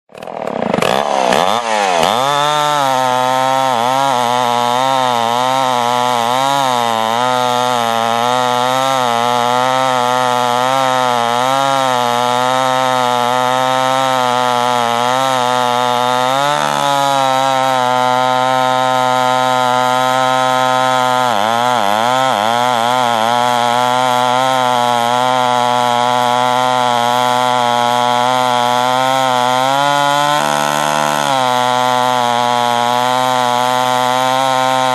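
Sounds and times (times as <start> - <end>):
chainsaw engine running: 0.1 - 34.9.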